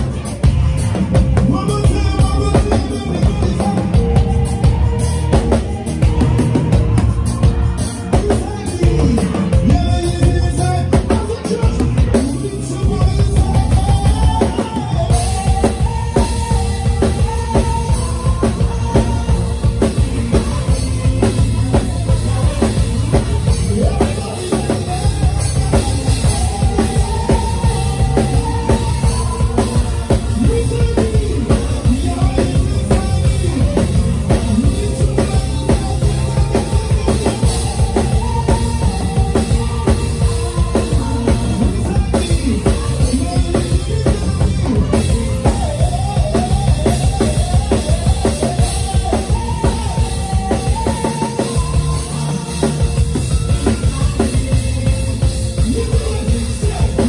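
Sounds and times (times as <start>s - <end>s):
band playing instrumental groove: 0.0s - 57.0s
drum kit beat: 0.0s - 57.0s.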